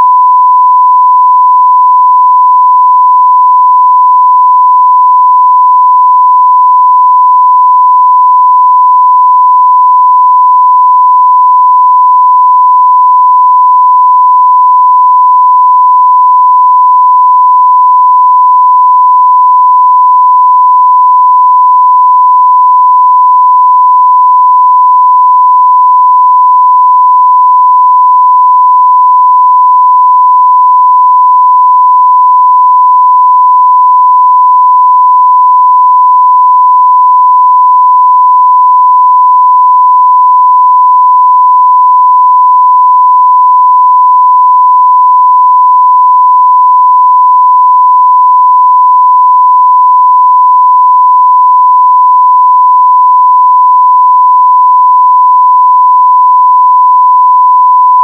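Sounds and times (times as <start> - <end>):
sine-wave test tone: 0.0 - 58.0.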